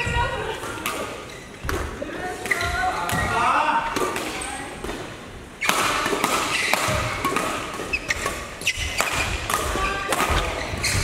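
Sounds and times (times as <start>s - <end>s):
rackets hitting shuttlecock: 0.6s - 11.0s.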